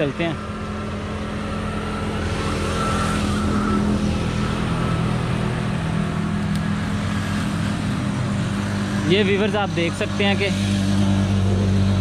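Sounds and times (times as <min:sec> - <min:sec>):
engine running: 0:00.0 - 0:12.0
steady rushing noise: 0:00.0 - 0:12.0.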